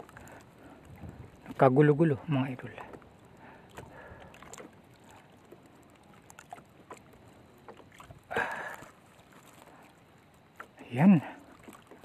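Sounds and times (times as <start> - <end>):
water lapping against a boat: 0.0 - 12.0.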